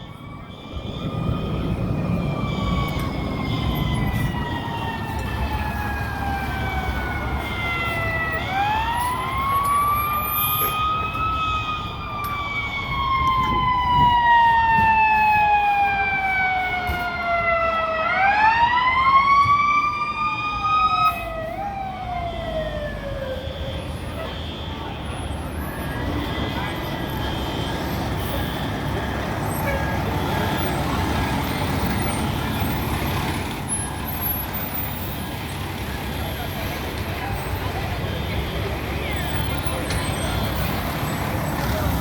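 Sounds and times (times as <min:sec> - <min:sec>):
fire truck siren: 0:00.0 - 0:42.0
passing traffic rumble: 0:00.0 - 0:42.0.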